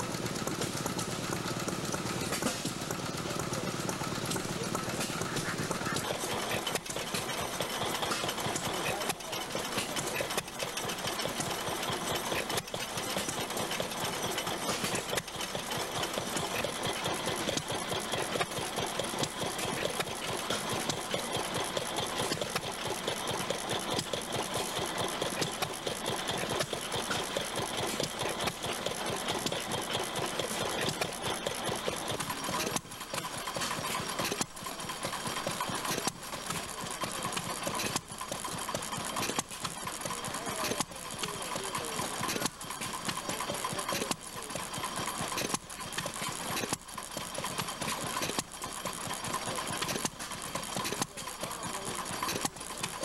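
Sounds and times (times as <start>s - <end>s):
stationary gas engines running: 0.0s - 53.0s.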